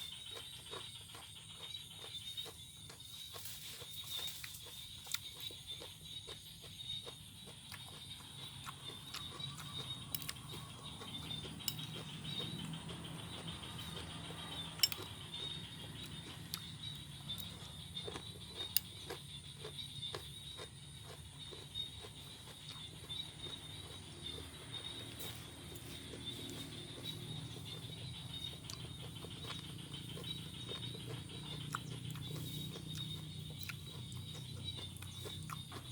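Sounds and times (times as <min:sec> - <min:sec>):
chewing crunchy salad: 0:00.0 - 0:35.9.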